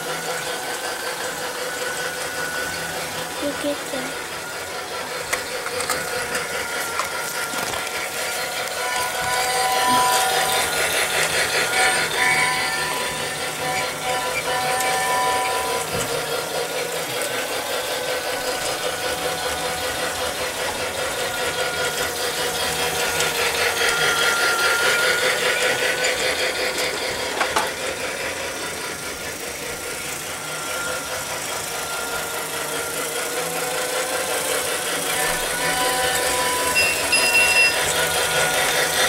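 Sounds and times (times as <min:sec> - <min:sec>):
toy train motor whirring: 0:00.0 - 0:39.0.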